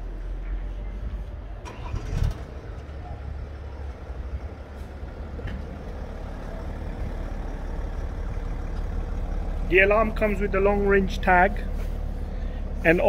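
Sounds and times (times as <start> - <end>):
diesel engine starting and idling: 0.0 - 13.0.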